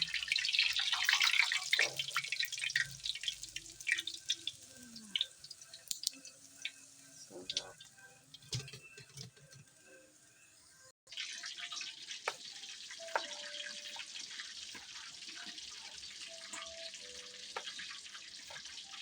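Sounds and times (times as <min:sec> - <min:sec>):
oil crackles and pops: 0:00.0 - 0:09.7, 0:11.1 - 0:19.0
hot oil sizzling: 0:00.0 - 0:19.0.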